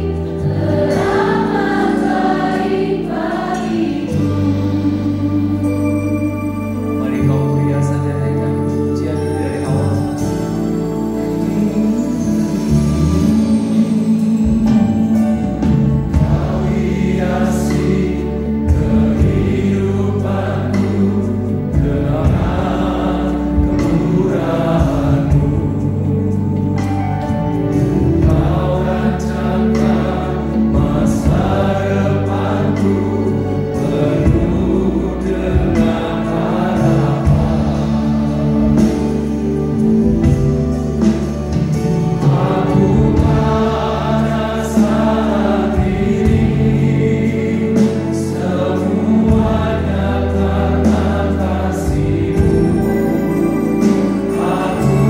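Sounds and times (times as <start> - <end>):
group singing worship song: 0.0 - 6.4, 11.1 - 55.0
instrumental accompaniment: 0.0 - 55.0.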